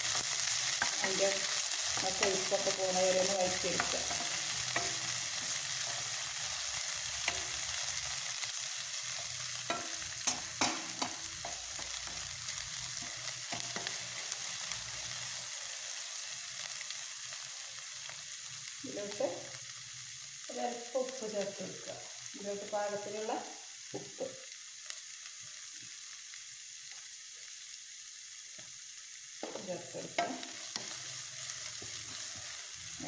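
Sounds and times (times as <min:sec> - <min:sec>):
okra sizzling in oil: 0:00.0 - 0:33.0.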